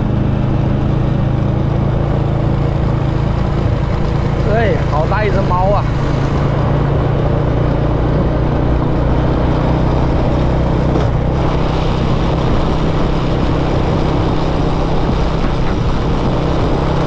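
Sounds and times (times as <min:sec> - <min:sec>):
scooter engine running: 0:00.0 - 0:17.0
wind and road noise: 0:00.0 - 0:17.0.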